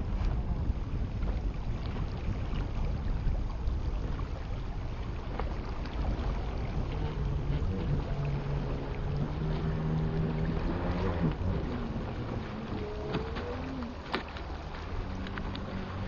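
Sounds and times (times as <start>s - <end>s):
speedboat on choppy water: 0.0s - 16.0s
wind buffeting microphone: 0.0s - 16.0s
faint steady motor tone: 2.2s - 16.0s.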